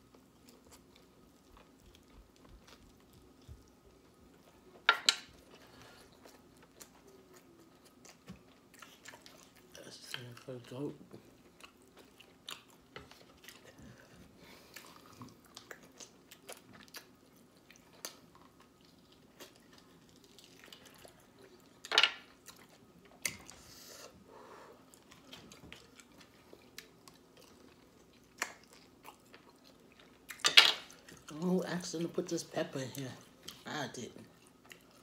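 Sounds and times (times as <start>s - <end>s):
person chewing food: 0.0s - 31.4s, 33.2s - 35.0s.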